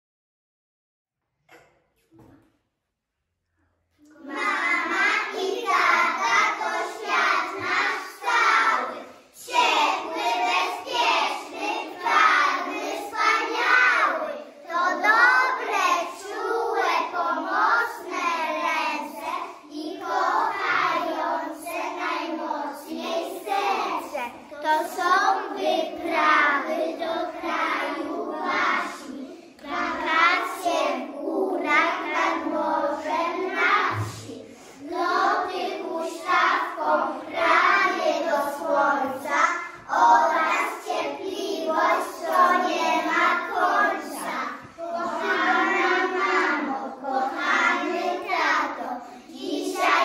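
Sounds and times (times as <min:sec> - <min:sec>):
children singing: 0:04.0 - 0:50.0.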